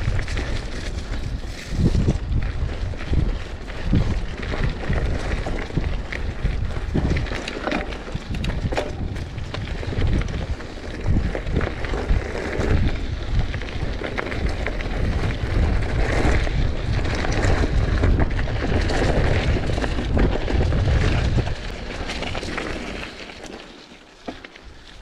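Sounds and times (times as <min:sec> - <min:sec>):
wind buffeting microphone: 0:00.0 - 0:23.1
bike rattling clicks: 0:00.0 - 0:25.0
bike tyres rumbling on dirt: 0:00.0 - 0:25.0.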